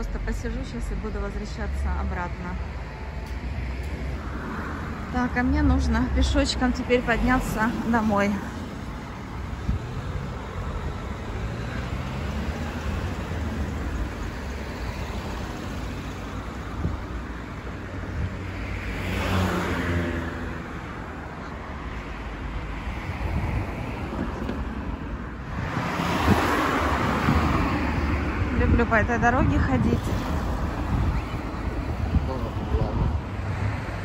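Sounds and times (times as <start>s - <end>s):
cars passing on road: 0.0s - 34.0s.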